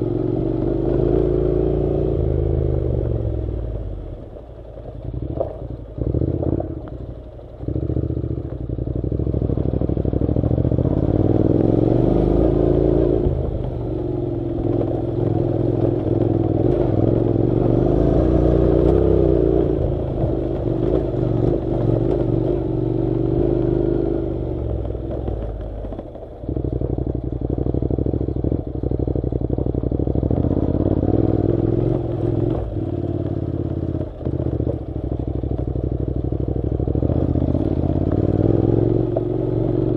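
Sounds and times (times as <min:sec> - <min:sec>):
motorcycle engine revving: 0:00.0 - 0:04.2, 0:05.0 - 0:39.9.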